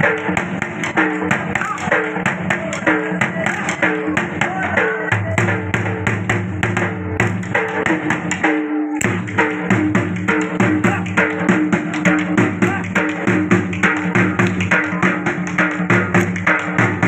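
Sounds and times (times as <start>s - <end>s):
dhol drum rhythm: 0.0s - 17.0s.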